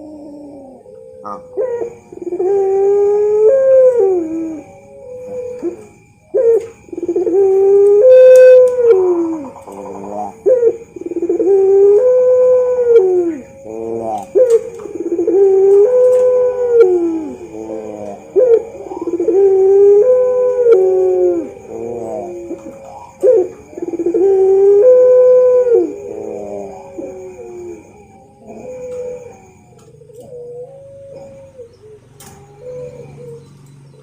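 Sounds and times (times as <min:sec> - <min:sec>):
dove cooing: 0:00.0 - 0:34.0.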